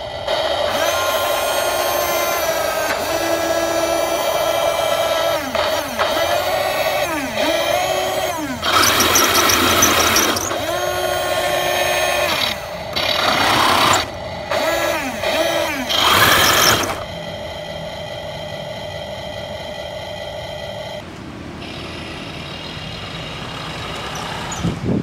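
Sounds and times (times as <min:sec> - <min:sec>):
toy tank motors whining: 0:00.0 - 0:25.0.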